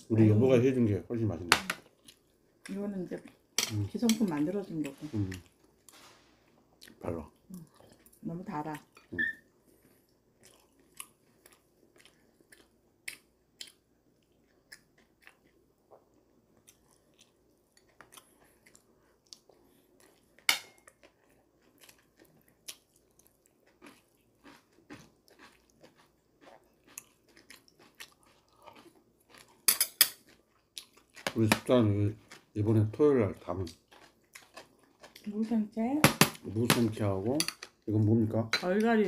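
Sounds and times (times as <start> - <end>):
man chewing food: 1.8 - 32.6, 33.5 - 35.3.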